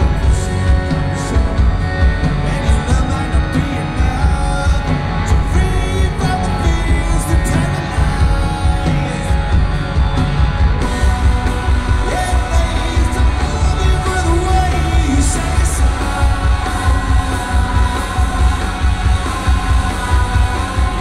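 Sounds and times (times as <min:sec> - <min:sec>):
drums: 0:00.0 - 0:21.0
electric guitar: 0:00.0 - 0:21.0
man singing: 0:00.0 - 0:21.0.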